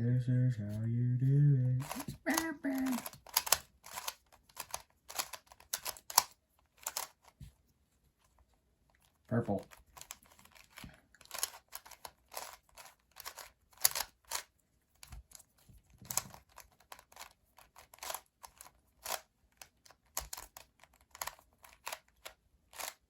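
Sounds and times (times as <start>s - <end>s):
plastic puzzle clicking: 1.8s - 7.4s, 9.0s - 23.0s.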